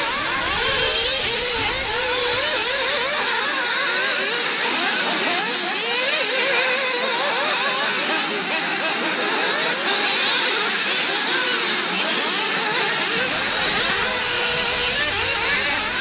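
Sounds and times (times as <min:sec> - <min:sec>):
small engines whining high: 0:00.0 - 0:16.0.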